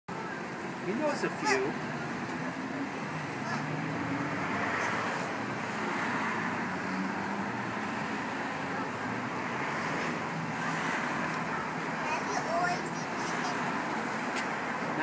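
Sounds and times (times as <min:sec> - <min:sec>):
road traffic hum: 0:00.1 - 0:15.0.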